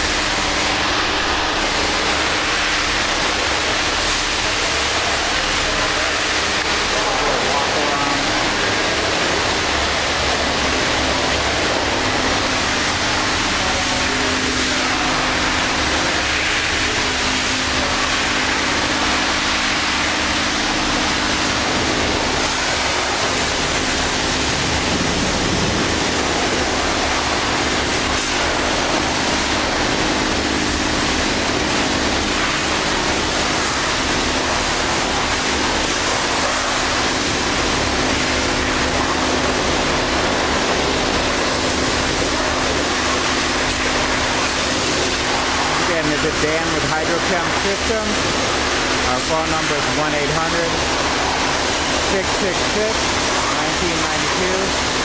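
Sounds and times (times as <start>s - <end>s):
pump humming: 0.0s - 55.0s.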